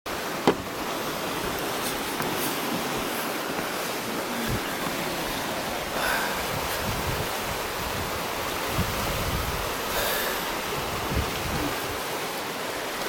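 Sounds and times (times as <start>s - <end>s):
waves washing over rocks: 0.1s - 13.0s.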